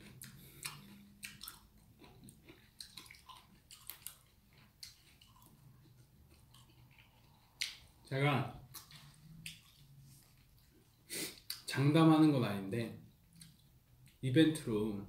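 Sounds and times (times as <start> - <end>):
person chewing: 0.0 - 11.7, 13.2 - 14.2.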